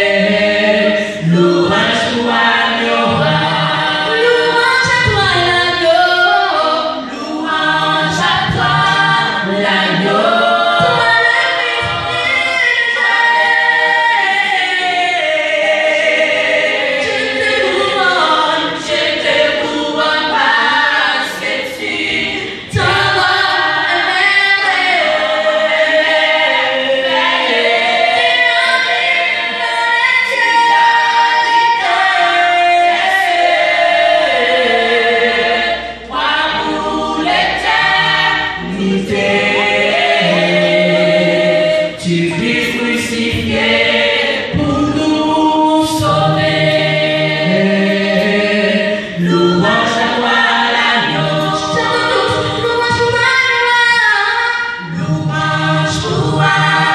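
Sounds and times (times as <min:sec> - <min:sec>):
female group singing a cappella: 0:00.0 - 0:56.9.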